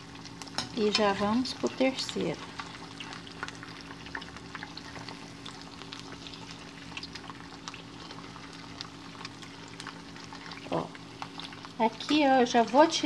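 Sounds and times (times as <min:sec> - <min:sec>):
eggs sizzling in oil: 0:00.0 - 0:13.0
low steady hum: 0:00.0 - 0:13.0.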